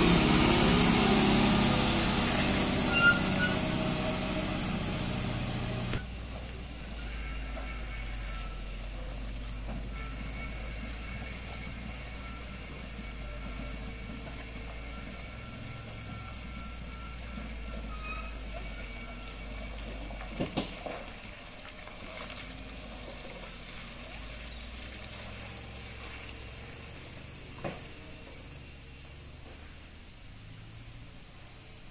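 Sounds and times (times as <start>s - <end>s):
diesel truck engine running: 0.0s - 31.9s.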